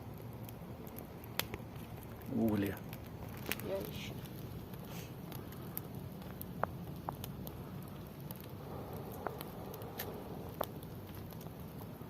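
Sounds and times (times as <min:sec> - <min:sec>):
campfire crackling: 0:00.0 - 0:12.0
sharp pops of fire: 0:00.0 - 0:12.0.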